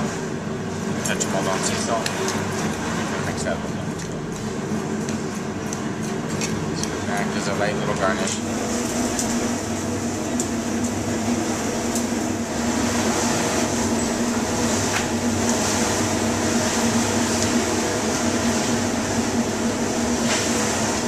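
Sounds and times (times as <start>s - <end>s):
ventilation hum and hiss: 0.0s - 21.0s.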